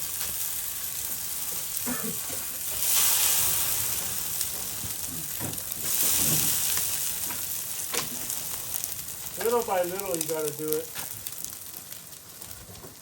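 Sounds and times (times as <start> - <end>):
water hissing on fire: 0.0 - 13.0.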